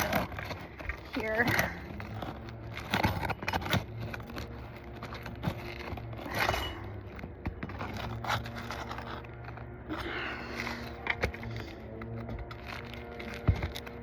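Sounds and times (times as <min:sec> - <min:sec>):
tool scraping under shingles: 0:00.0 - 0:14.0.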